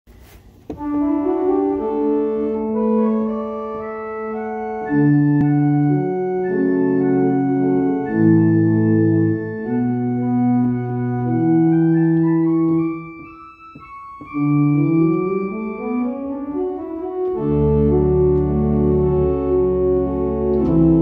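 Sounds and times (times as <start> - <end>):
church organ playing chords: 0.7 - 21.0
low organ bass notes: 0.7 - 21.0.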